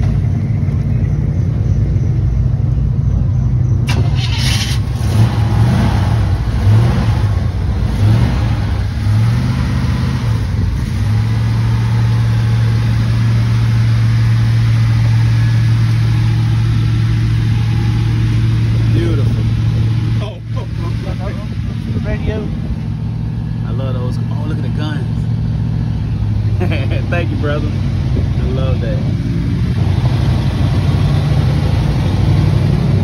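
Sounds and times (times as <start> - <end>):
pickup engine revving and idling: 0.0 - 33.0.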